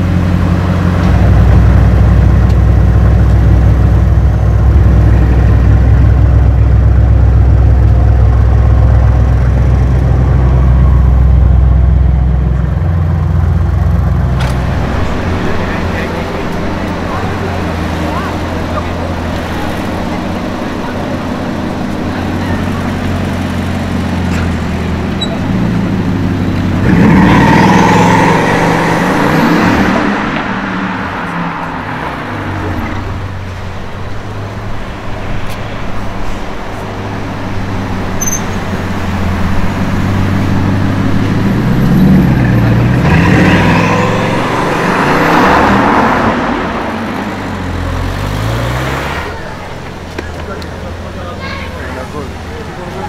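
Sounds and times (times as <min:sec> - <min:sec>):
car engine surging: 0:00.0 - 0:53.0.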